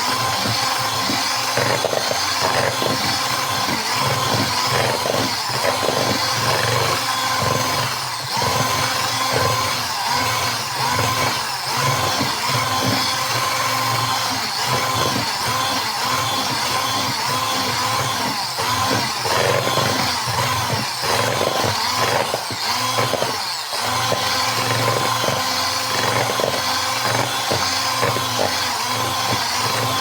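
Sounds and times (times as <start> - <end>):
small electric motor whining: 0.0 - 30.0.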